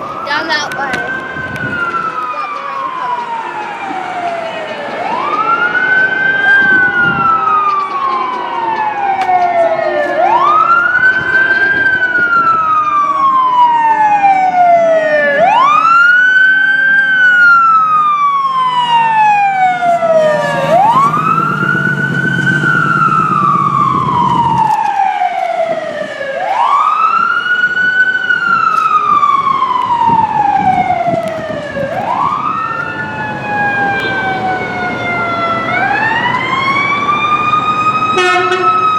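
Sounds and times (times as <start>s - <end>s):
fainter second siren: 0.0s - 38.9s
siren wailing: 0.0s - 38.9s.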